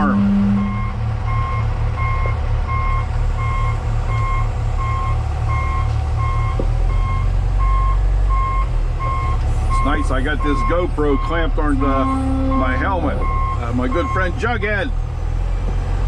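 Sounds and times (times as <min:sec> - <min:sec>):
backup alarm beeping: 0:00.0 - 0:14.3
heavy diesel engine running: 0:00.0 - 0:16.0.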